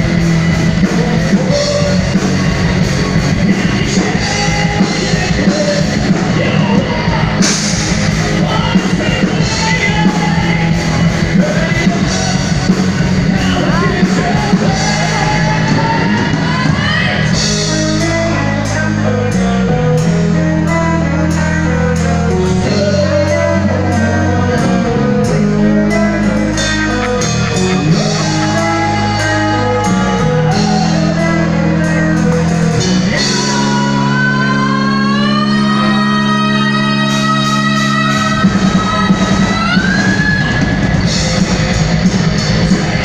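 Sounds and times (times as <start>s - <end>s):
electric guitars and bass: 0.0s - 43.0s.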